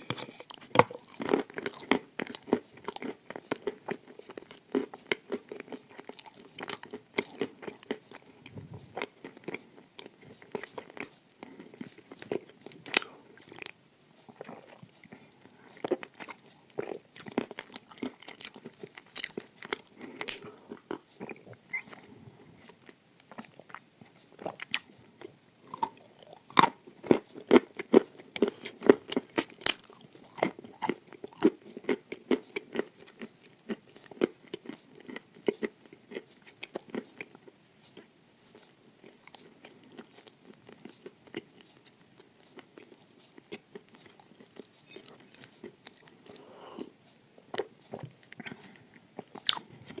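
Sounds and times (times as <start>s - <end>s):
cookie crunching: 0.0s - 46.5s.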